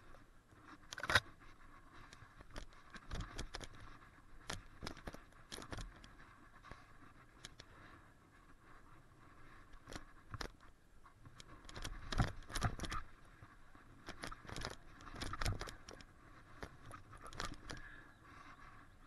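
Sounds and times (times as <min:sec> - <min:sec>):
mountain bike rattling: 0:00.0 - 0:19.0.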